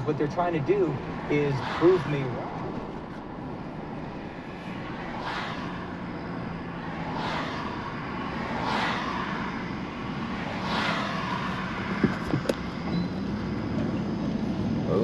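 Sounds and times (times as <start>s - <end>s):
passing traffic whooshes: 0.0s - 15.0s
vehicle engine and road noise: 0.0s - 15.0s.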